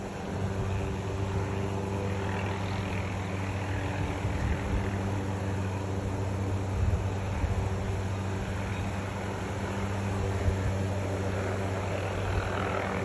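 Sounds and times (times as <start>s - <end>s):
broad rushing noise: 0.0s - 13.0s
helicopter engine and rotor hum: 0.0s - 13.0s.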